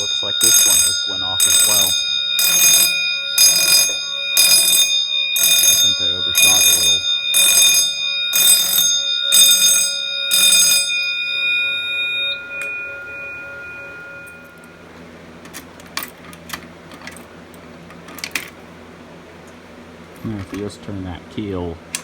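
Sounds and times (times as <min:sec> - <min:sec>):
fire alarm bell striking: 0:00.0 - 0:18.8.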